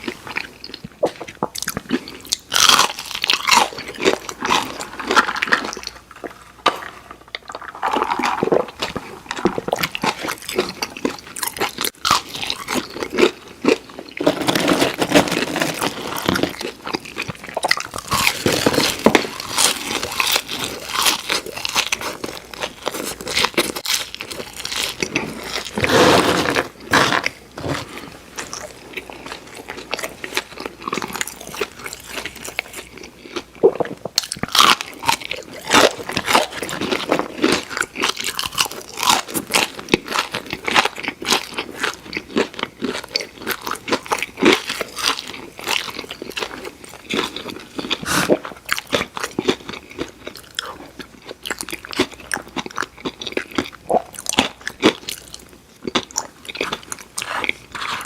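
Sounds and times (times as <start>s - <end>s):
crunchy chewing of fried food: 0.0s - 58.0s.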